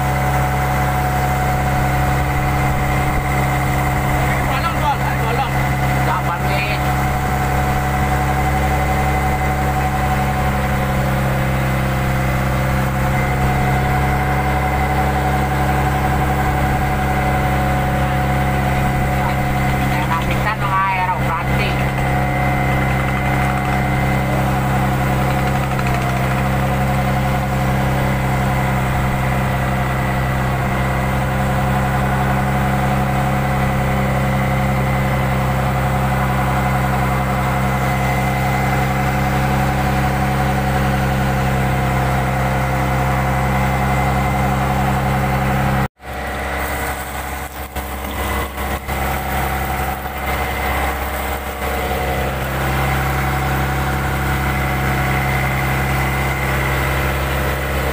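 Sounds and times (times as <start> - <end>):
boat engine humming: 0.0 - 57.9.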